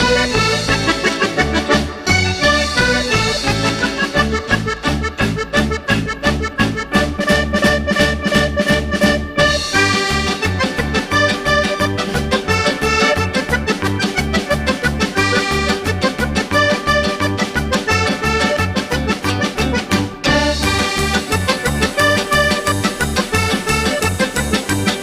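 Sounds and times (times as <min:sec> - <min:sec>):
upbeat music with accordion melody: 0:00.0 - 0:25.0.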